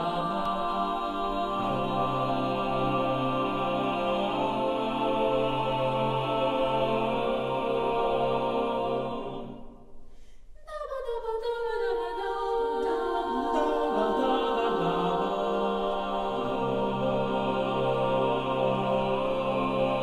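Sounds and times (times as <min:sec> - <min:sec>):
a cappella choir holding chords: 0:00.0 - 0:10.0, 0:10.7 - 0:20.0.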